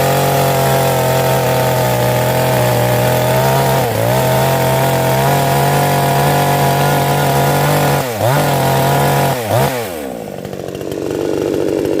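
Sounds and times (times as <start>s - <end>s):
chainsaw engine at high revs: 0.0s - 12.0s.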